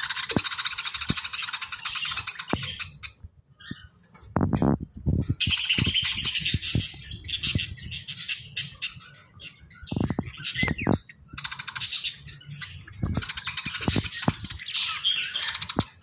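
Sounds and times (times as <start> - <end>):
budgerigars chirping: 0.0 - 4.0, 5.4 - 16.0.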